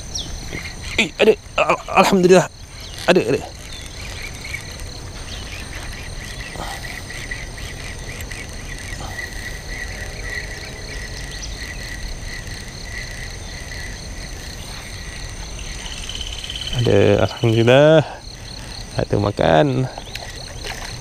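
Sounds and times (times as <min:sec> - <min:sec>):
fast pulsing insect trill: 0:00.0 - 0:21.0
insects trilling: 0:00.0 - 0:21.0.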